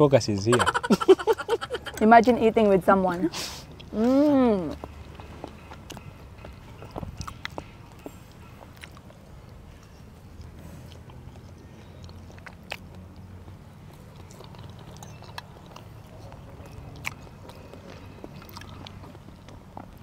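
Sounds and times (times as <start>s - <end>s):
chewing and biting food: 3.7s - 20.0s.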